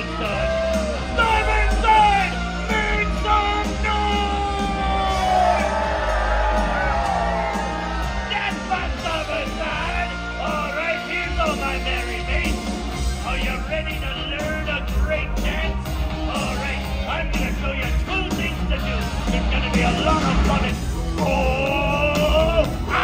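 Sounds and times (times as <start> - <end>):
backing track with steady beat: 0.0 - 23.0
performers singing and yelling: 0.0 - 23.0.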